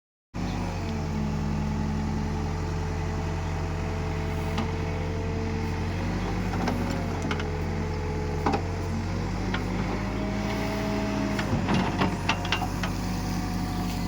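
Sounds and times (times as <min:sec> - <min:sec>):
diesel engine running: 0:00.4 - 0:14.0.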